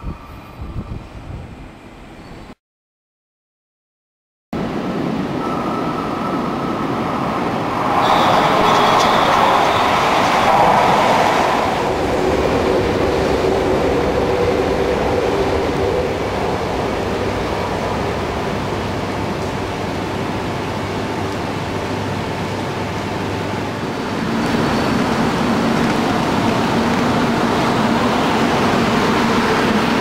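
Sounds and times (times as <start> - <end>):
bullet train passing: 4.6 - 30.0.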